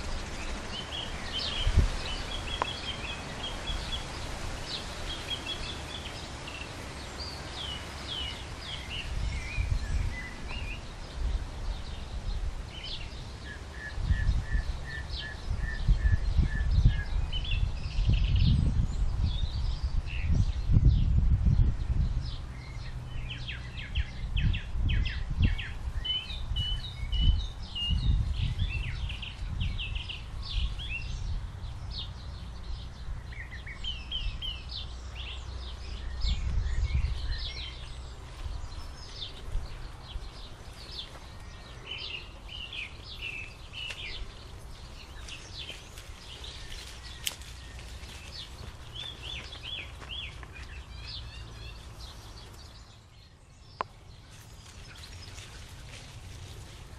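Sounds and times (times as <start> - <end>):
songbirds chirping and singing: 0.0 - 56.9
wind buffeting microphone: 0.0 - 56.9.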